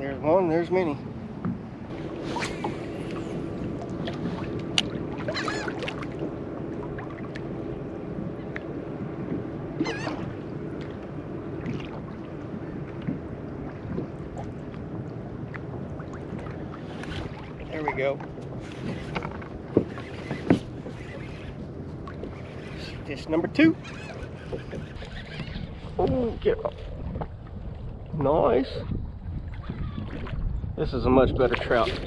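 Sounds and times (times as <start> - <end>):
low hum: 0.0 - 31.0
water noise: 0.0 - 32.0
seabirds calling: 0.1 - 27.6, 29.4 - 30.3.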